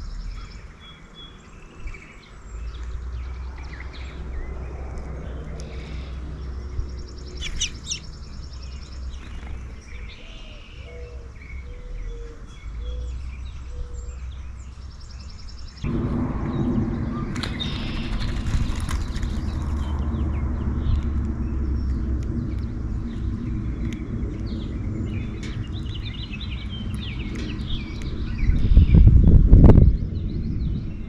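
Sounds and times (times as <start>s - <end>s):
low motor rumble: 0.0s - 31.0s
songbirds chirping: 0.0s - 31.0s.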